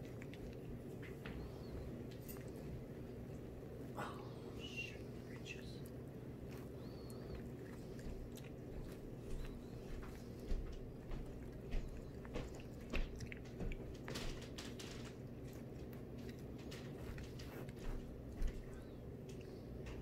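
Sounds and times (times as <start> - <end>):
raccoon chewing toasted bread: 0.0 - 20.0.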